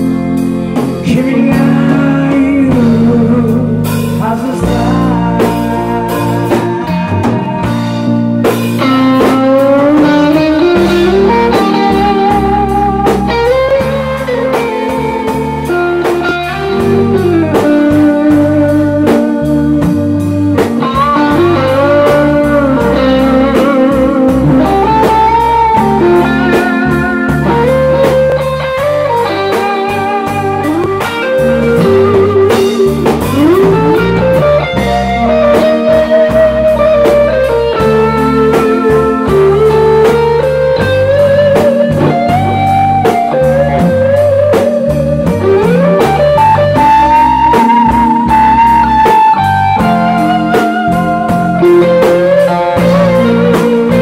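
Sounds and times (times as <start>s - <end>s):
bass guitar: 0.0s - 54.0s
drum kit: 0.0s - 54.0s
electric lead guitar melody: 0.0s - 54.0s.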